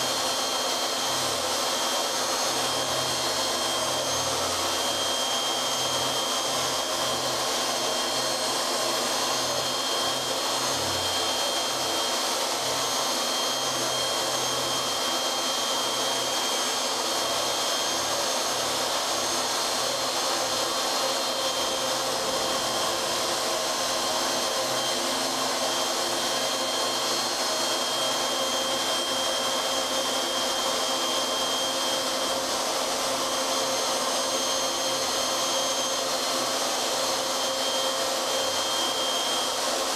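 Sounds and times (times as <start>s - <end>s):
cnc router spindle whirring: 0.0s - 39.9s.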